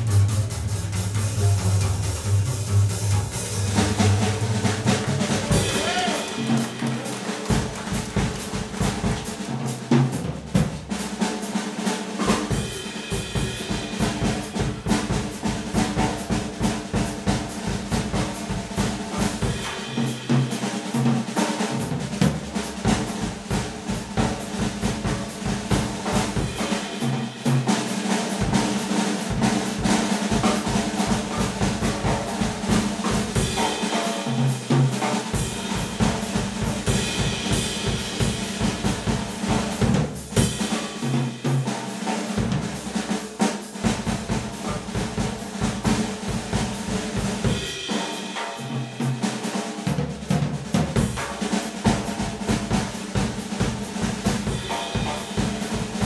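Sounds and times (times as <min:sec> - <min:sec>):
drum kit solo with cymbals: 0:00.0 - 0:56.0.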